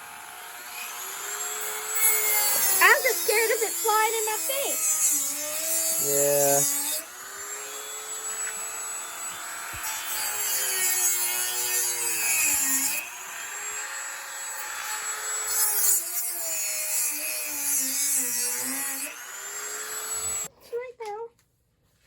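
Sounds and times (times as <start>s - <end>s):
rotary tool grinding wood: 0.0s - 20.5s.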